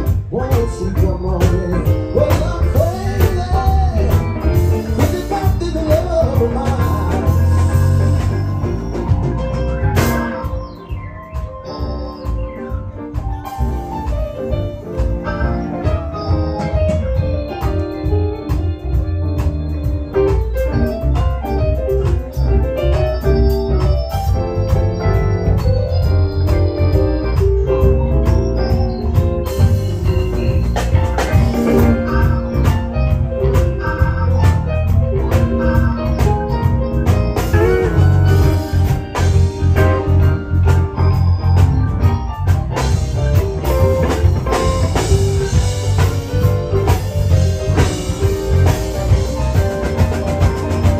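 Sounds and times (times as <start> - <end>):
bass line: 0.0 - 50.9
drums: 0.0 - 50.9
organ playing chords and runs: 0.0 - 50.9.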